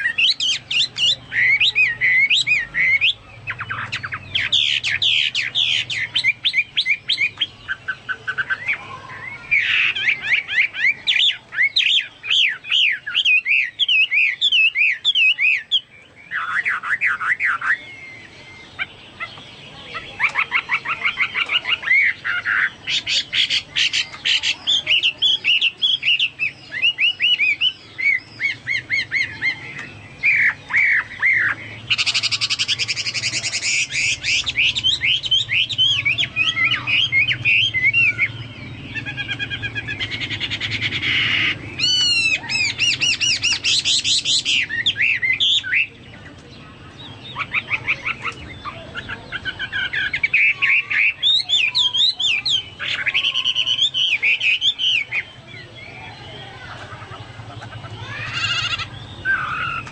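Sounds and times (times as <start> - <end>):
bird singing whistled trills: 0.0 - 46.2, 47.0 - 56.7, 57.6 - 59.9.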